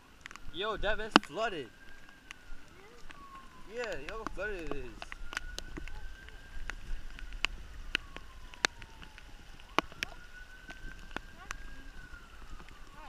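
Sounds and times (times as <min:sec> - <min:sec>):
faint siren wailing: 0:00.0 - 0:13.0
low wind rumble: 0:00.0 - 0:13.0
raindrops tapping on microphone: 0:00.0 - 0:13.0.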